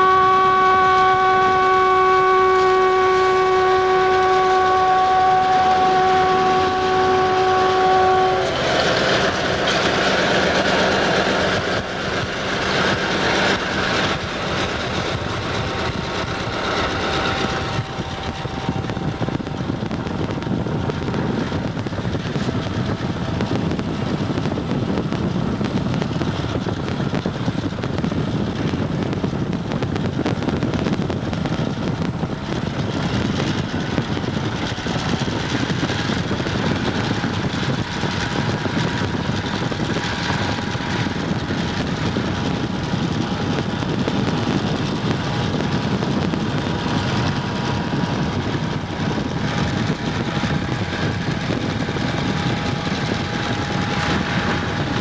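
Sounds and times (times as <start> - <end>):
diesel locomotives droning: 0.0 - 55.0
car road and wind noise: 5.5 - 55.0.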